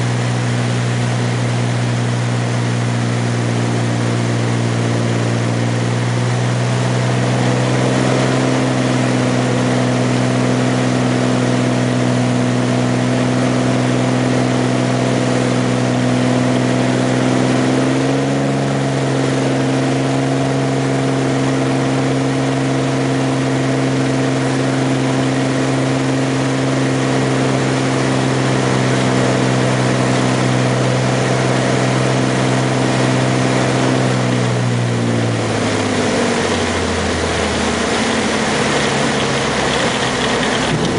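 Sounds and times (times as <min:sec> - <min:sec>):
propeller plane engine: 0:00.0 - 0:40.9.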